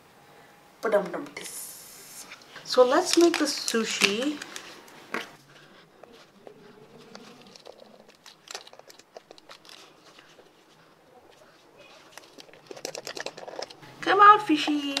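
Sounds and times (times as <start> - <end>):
clay rubbing: 2.1 - 15.0.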